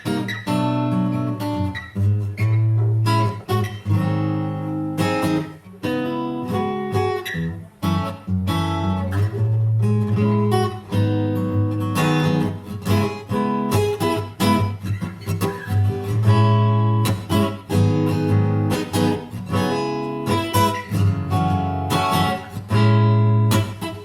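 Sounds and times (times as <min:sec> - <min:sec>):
acoustic guitar chords strummed: 0:00.0 - 0:24.0.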